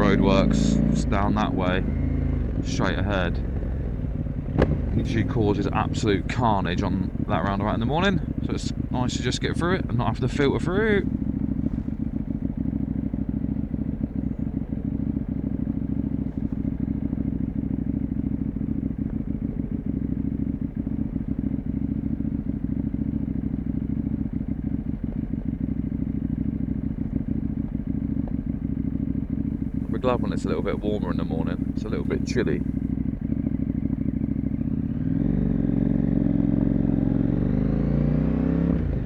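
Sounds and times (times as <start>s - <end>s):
muffled motorcycle engine running: 0.0s - 39.0s.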